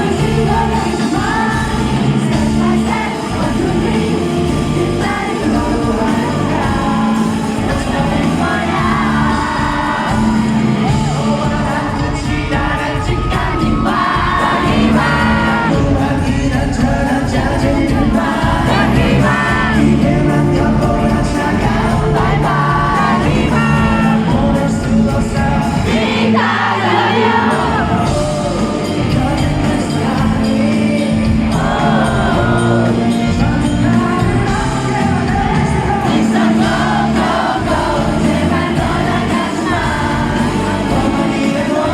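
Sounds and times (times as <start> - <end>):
audience singing along and cheering: 0.0 - 41.9
live rock band playing: 0.0 - 41.9
man singing: 0.0 - 41.9.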